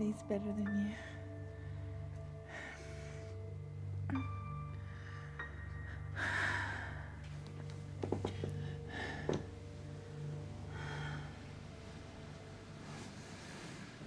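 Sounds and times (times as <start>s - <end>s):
low steady music: 0.0s - 14.0s.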